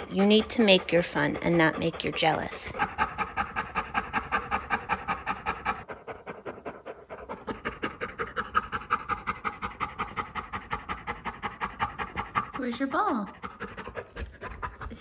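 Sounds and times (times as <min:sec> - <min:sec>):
dog panting rapidly: 0:00.0 - 0:15.0.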